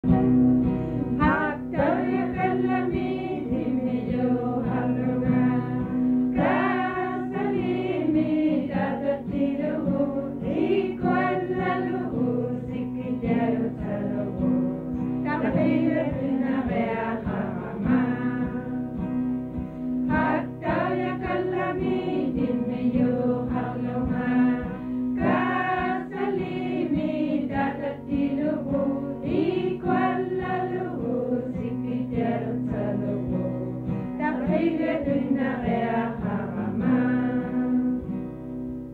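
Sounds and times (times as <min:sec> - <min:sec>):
group singing children's song: 0:00.0 - 0:38.3
guitar: 0:00.0 - 0:38.9.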